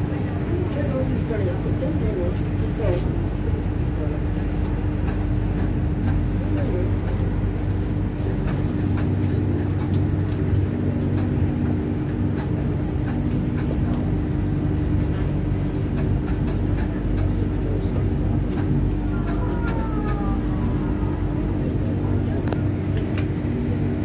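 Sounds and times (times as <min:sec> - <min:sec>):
train carriage rumble and hum: 0:00.0 - 0:24.0.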